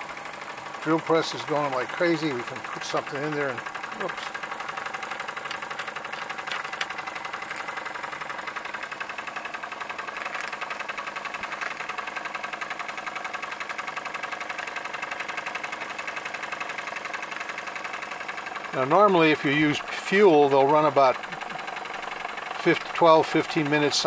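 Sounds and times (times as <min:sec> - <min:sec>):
belt-driven line shaft and drill press: 0:00.0 - 0:24.0
toy steam engine running: 0:00.0 - 0:24.0.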